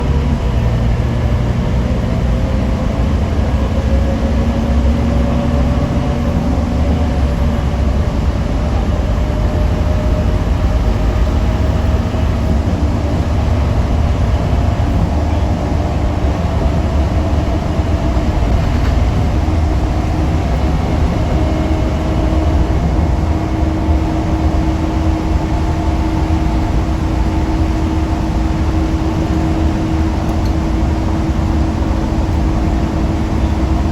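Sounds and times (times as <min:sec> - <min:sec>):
bus diesel engine rumble: 0:00.0 - 0:33.9
faint drivetrain whine: 0:00.0 - 0:33.9.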